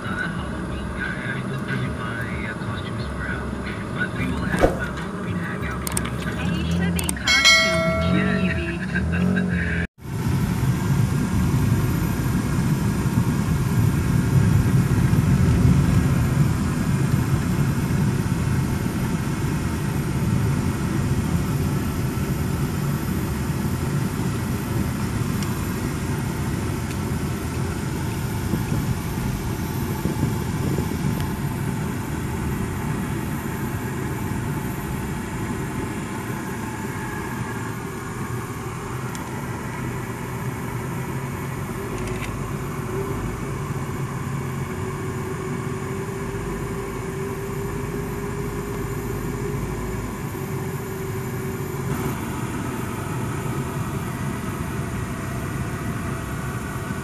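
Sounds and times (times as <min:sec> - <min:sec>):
car interior engine and tyre rumble: 0:00.0 - 0:57.0.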